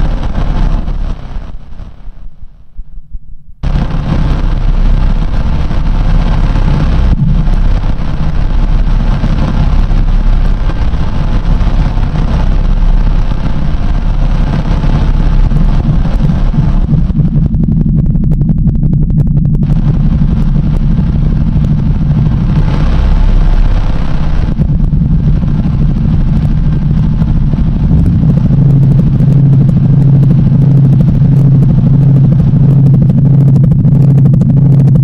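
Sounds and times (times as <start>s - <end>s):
crackling: 0.0s - 2.8s, 3.6s - 35.0s
loud low drone: 0.0s - 35.0s
pulsing low hum: 0.0s - 35.0s.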